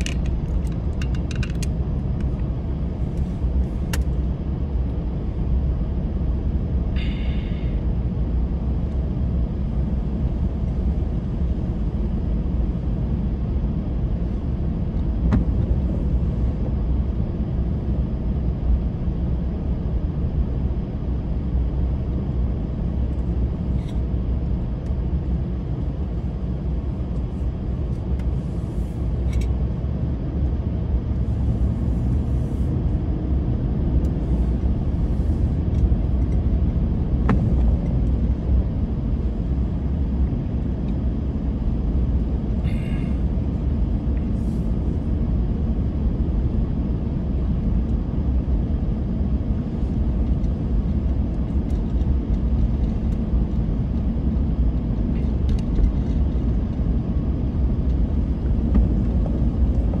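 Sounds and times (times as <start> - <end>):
car engine and tyres rumbling: 0.0 - 60.0.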